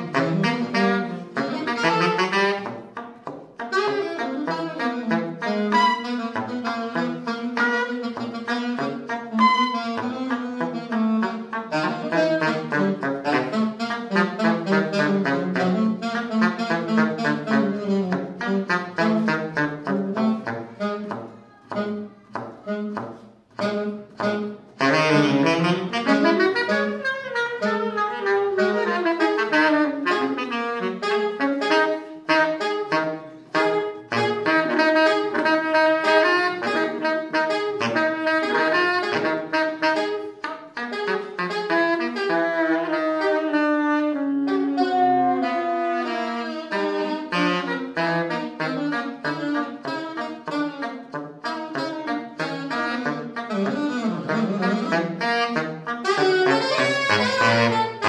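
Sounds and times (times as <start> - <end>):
saxophones improvising: 0.0 - 58.0.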